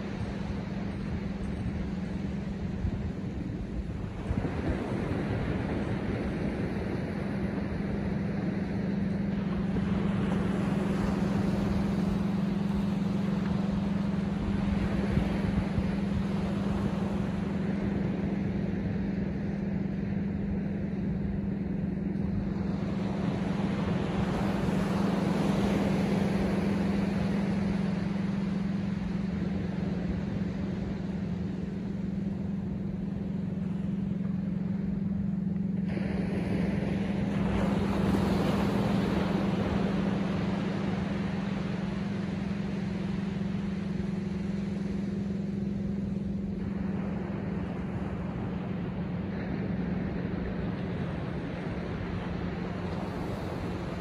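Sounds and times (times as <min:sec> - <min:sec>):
ocean surf breaking: 0:00.0 - 0:54.0
steady low hum: 0:00.0 - 0:54.0.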